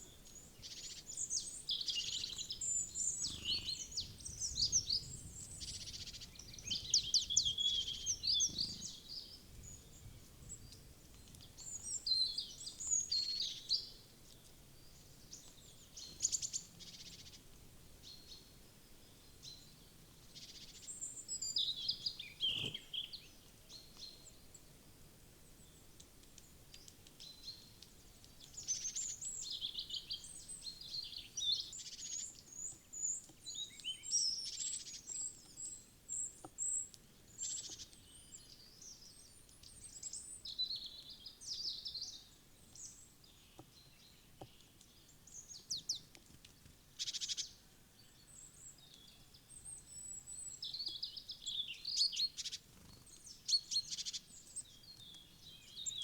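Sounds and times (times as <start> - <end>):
faint outdoor background: 0.0 - 56.0
small songbirds chirping: 0.0 - 56.0.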